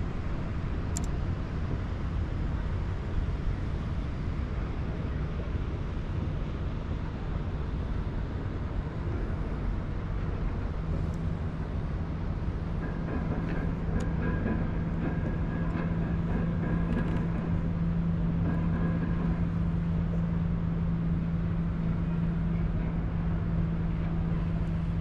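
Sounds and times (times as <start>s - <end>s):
low motor hum: 0.0s - 25.0s
wind: 0.0s - 25.0s.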